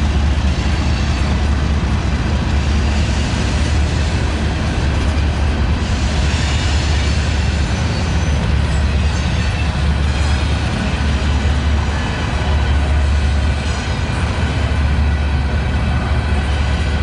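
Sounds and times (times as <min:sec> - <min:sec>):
freight train wheels on rail: 0:00.0 - 0:17.0.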